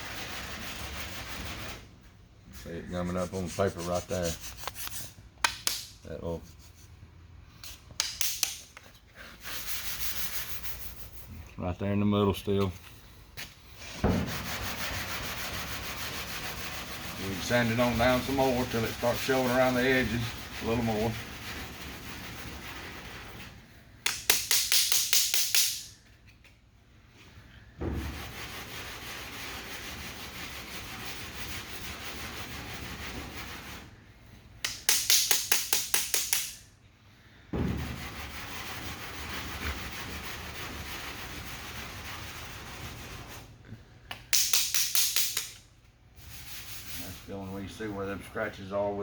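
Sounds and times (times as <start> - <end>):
sandpaper scraping: 0.0 - 1.9, 2.5 - 6.9, 7.6 - 11.4, 13.7 - 25.9, 28.0 - 34.0, 34.7 - 36.6, 37.8 - 43.5, 44.3 - 45.6, 46.2 - 49.0.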